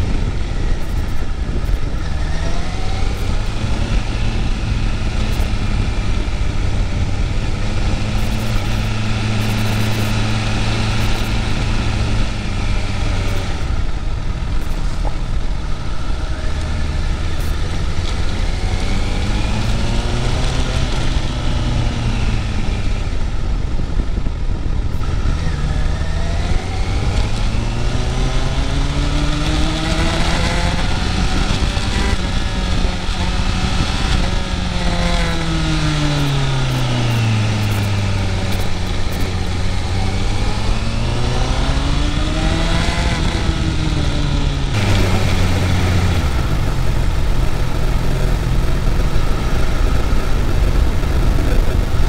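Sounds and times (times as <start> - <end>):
motorcycle engine running: 0.0 - 52.0
wind noise: 0.0 - 52.0.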